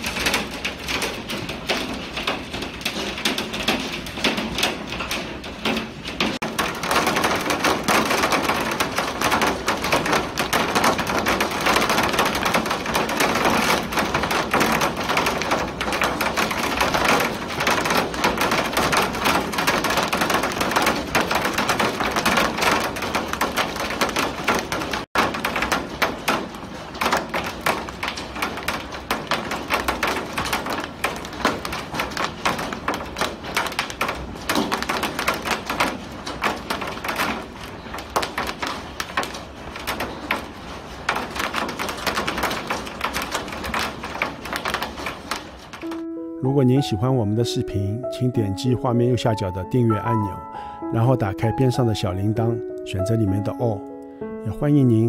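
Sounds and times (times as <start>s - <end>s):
hailstones pelting glass and ground: 0.0s - 55.0s.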